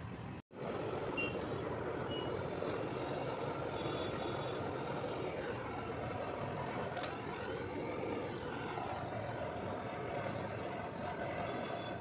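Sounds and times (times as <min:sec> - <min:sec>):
torch flame rushing: 0:00.5 - 0:12.0.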